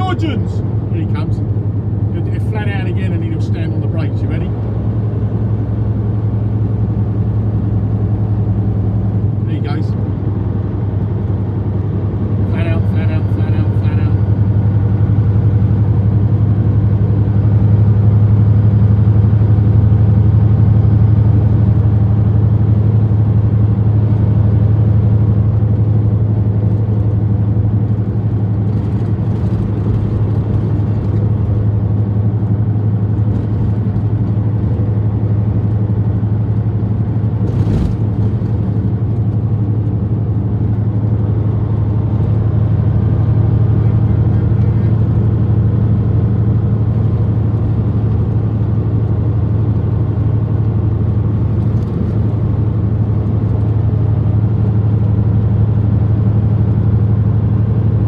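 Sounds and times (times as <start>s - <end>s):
road noise: 0.0s - 58.0s
truck diesel engine droning: 0.0s - 58.0s.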